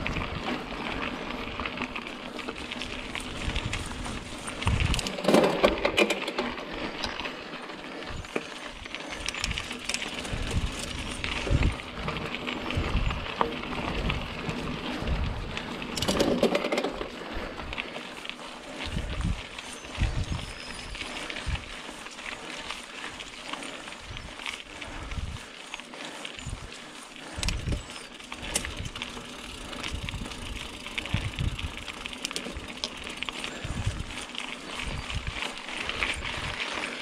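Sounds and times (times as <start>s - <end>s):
bike clicks and rattles: 0.0s - 37.0s
bike tyres on dirt trail: 0.0s - 37.0s.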